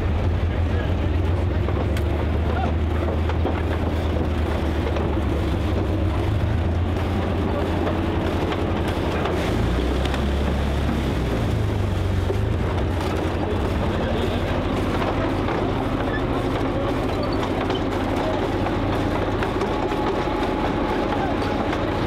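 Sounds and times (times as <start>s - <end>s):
tank engine rumbling: 0.0s - 22.0s.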